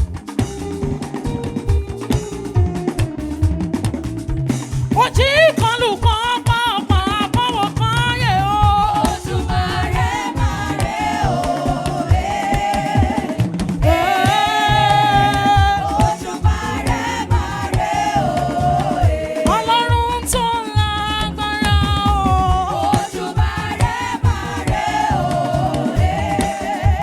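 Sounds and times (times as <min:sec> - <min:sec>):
drum and percussion groove: 0:00.0 - 0:27.0
person singing gospel: 0:05.0 - 0:27.0.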